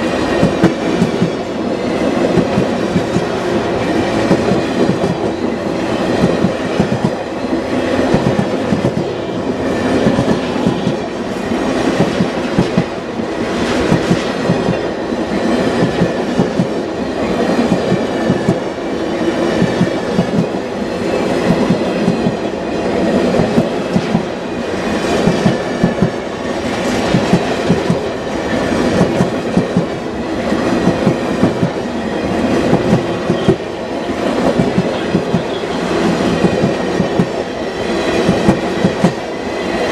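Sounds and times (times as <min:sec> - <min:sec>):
train wheels clicking over rail joints: 0:00.1 - 0:39.9.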